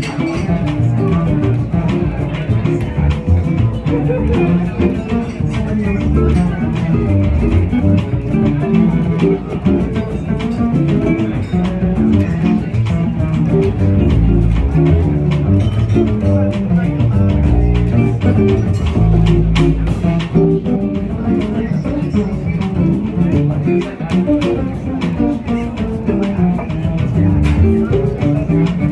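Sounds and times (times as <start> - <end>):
jazz guitar playing: 0.0 - 28.9
low bass notes: 0.0 - 28.9.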